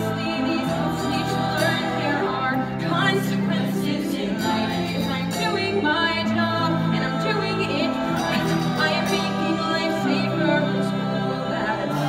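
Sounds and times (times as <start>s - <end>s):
live instrumental accompaniment: 0.0s - 12.0s
young woman singing: 0.0s - 12.0s.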